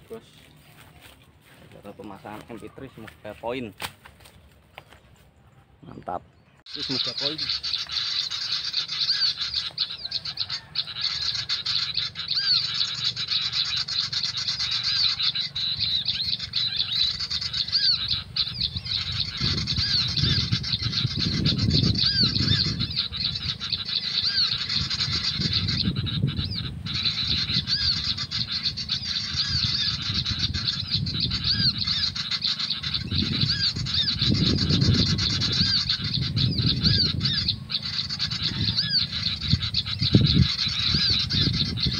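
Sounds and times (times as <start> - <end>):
recorded bird chirp: 0.0 - 41.9.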